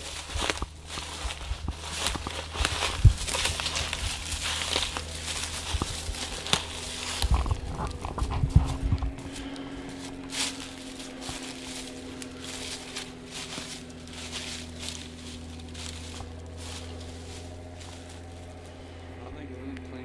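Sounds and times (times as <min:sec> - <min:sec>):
footsteps crunching dry leaves: 0:00.0 - 0:19.1
low hum: 0:00.0 - 0:20.0.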